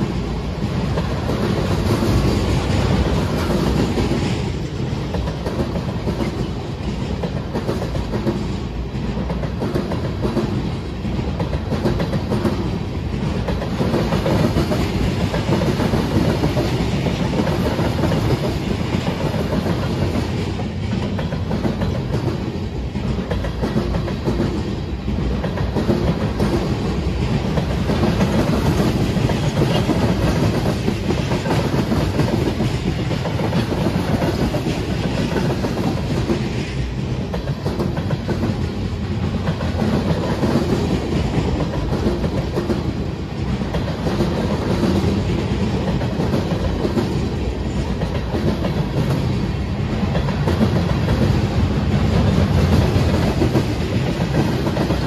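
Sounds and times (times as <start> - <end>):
steel wheels rumbling: 0.0 - 55.0.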